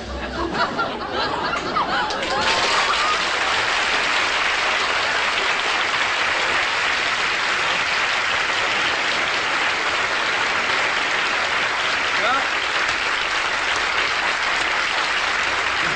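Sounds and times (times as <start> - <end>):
audience applauding: 1.6 - 15.9.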